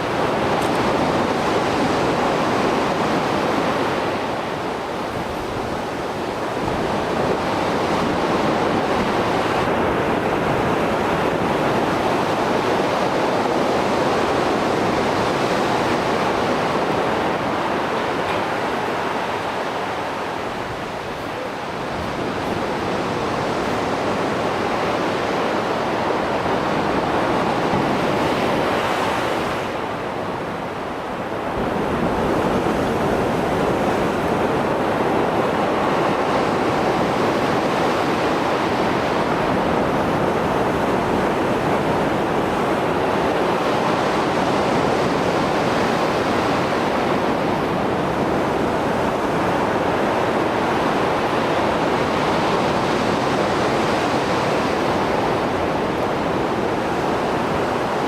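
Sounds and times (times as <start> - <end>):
waves breaking and washing: 0.0 - 58.0.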